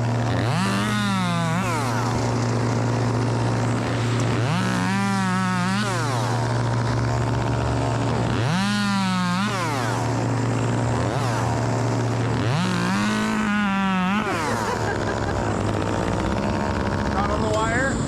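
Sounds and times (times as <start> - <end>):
chainsaw revving: 0.0 - 18.0
engine running steadily: 0.0 - 18.0.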